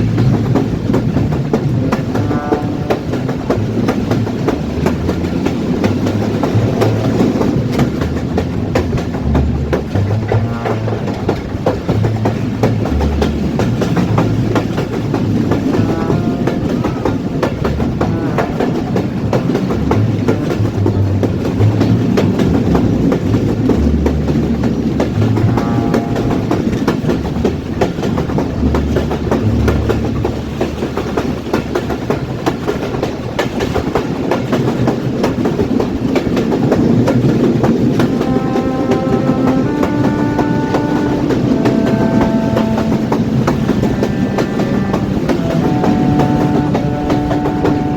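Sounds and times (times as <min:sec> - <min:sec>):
train running on rails: 0:00.0 - 0:47.9.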